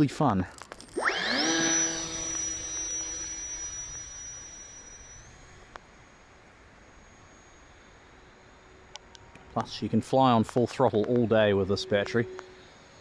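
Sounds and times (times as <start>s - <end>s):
electric motor and propeller whining: 0.0s - 13.0s.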